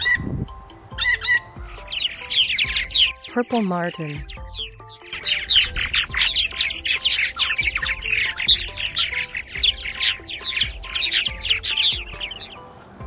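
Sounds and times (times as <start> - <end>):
bird chattering: 0.9 - 12.6.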